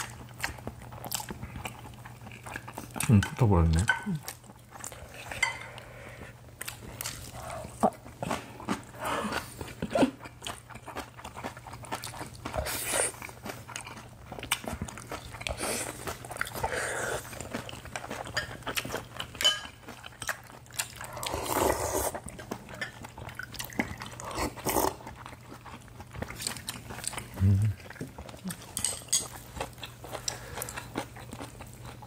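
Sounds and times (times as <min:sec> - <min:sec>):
people chewing and eating: 0:00.0 - 0:32.0.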